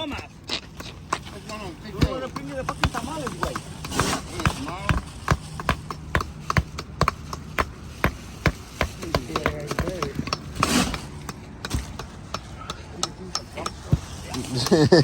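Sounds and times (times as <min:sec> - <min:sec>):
hammering knocks: 0:00.0 - 0:15.0.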